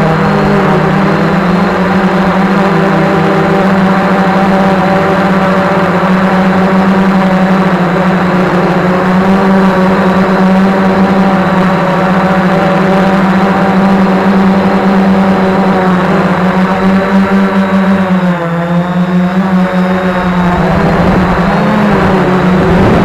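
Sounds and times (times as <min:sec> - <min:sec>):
quadcopter motors droning: 0:00.0 - 0:23.0.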